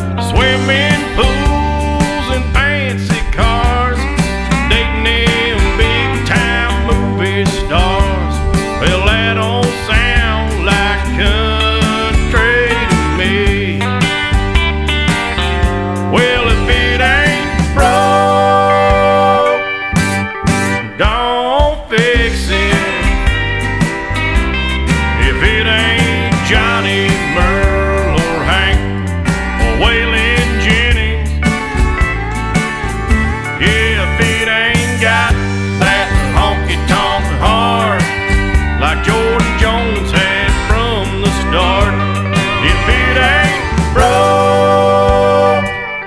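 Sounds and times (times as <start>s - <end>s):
bass: 0.0s - 21.3s, 21.9s - 46.0s
steady drum beat: 0.0s - 45.9s
country music instrumental: 0.0s - 46.0s.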